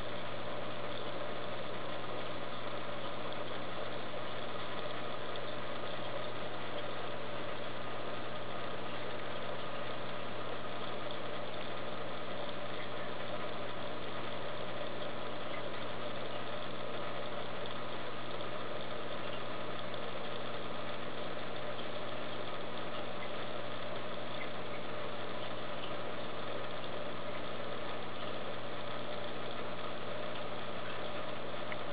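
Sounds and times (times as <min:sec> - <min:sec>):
aquarium pumps humming: 0:00.0 - 0:31.9.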